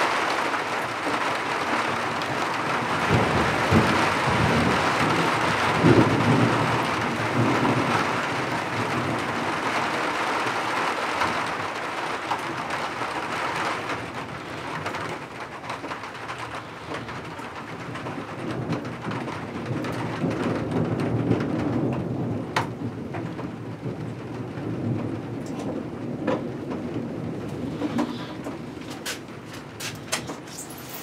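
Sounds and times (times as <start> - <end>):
thunder rumble: 0.0 - 30.5
heavy rain pouring: 0.0 - 31.0.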